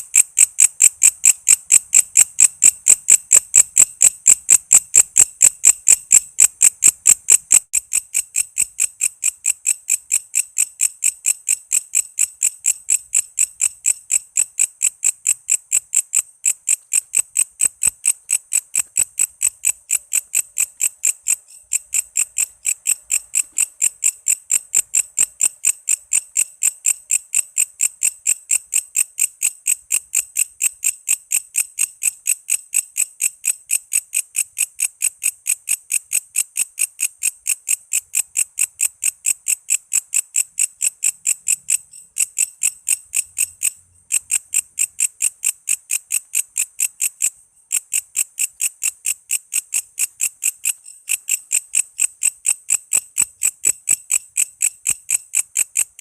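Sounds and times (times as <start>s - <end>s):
insect calling in shrill pulses: 0.0s - 56.0s.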